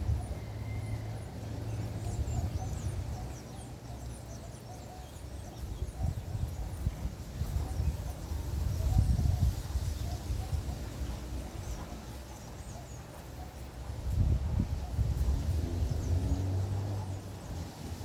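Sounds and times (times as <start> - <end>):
birds calling in high chirps: 0.0 - 18.0.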